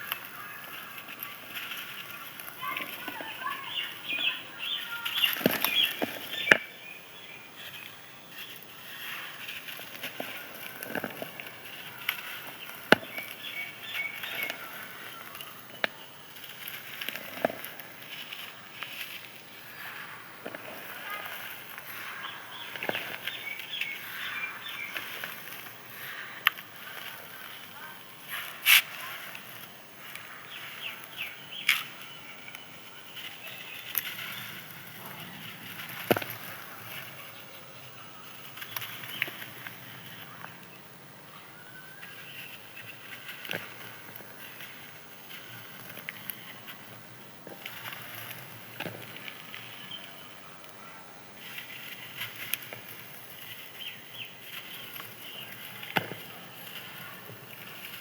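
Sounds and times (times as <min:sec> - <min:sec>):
crumbling sand-cement crackle: 0:00.0 - 0:58.0.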